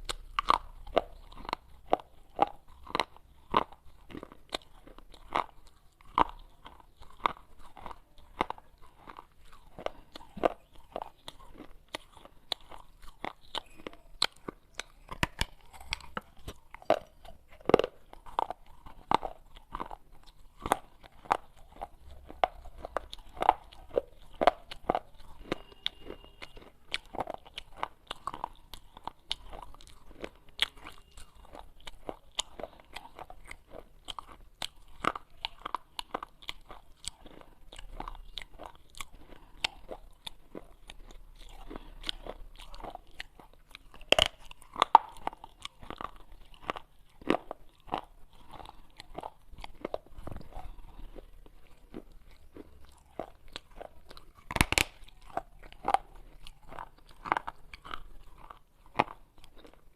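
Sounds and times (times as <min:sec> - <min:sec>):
crunching clay pot pieces: 0:00.0 - 0:59.9.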